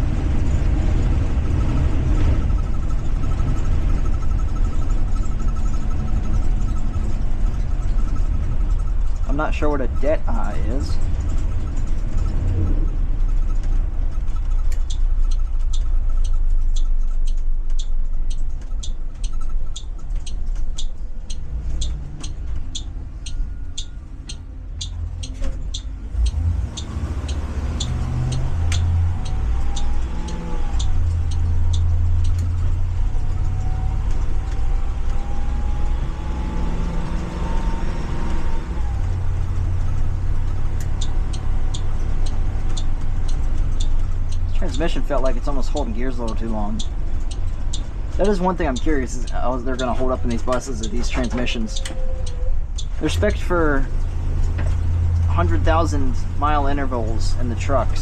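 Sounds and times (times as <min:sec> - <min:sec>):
bus engine pulling away: 0:00.0 - 0:58.0
transmission whine: 0:00.0 - 0:58.0
turn signal clicking: 0:00.2 - 0:58.0.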